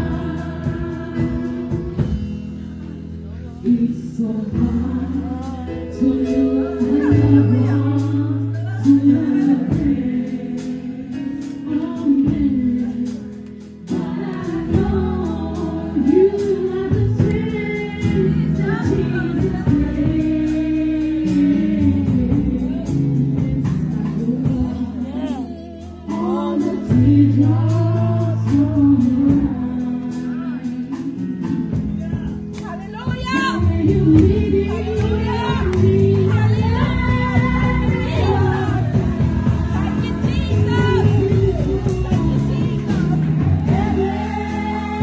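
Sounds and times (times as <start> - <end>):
backing music with bass and beat: 0.0 - 45.0
woman singing gospel: 0.0 - 45.0.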